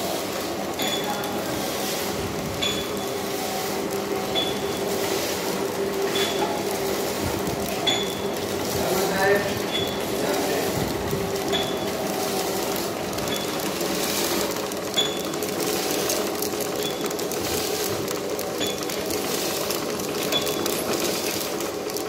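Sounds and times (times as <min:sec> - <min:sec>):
packing machine humming: 0:00.0 - 0:22.0.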